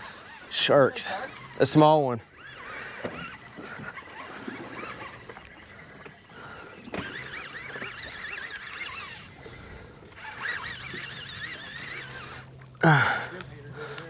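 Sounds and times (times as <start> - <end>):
seabirds squawking: 0.0 - 14.0.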